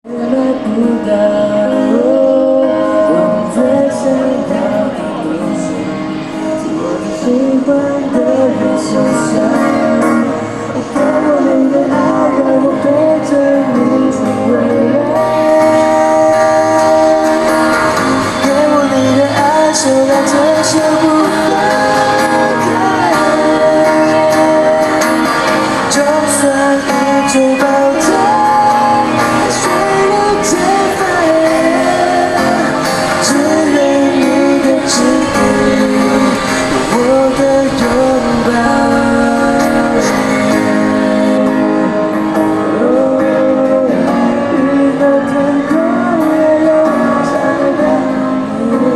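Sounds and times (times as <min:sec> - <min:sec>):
music with singing: 0:00.0 - 0:48.9.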